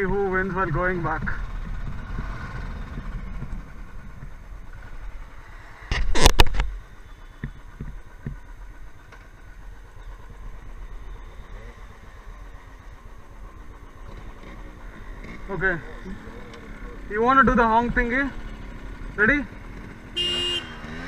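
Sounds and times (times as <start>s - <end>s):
motorcycle engines idling: 0.0s - 21.0s.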